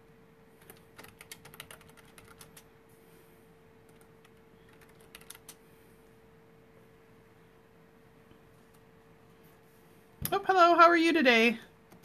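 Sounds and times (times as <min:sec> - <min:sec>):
steady faint hum: 0:00.0 - 0:12.0.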